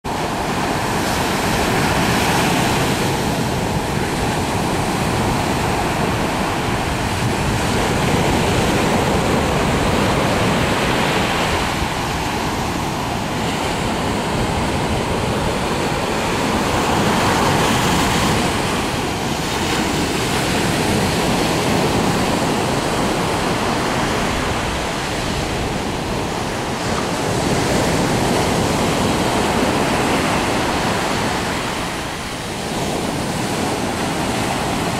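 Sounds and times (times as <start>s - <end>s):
ocean surf breaking on beach: 0.1s - 34.9s.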